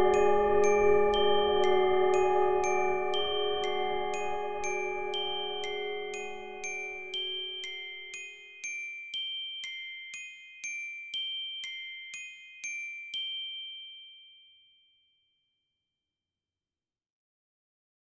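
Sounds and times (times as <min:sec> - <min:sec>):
bell-like mallet notes: 0:00.0 - 0:14.7.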